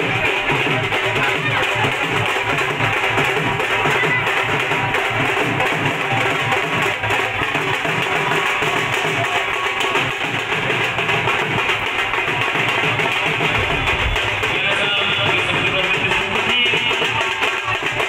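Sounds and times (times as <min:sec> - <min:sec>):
dhol drums beating: 0:00.0 - 0:18.0.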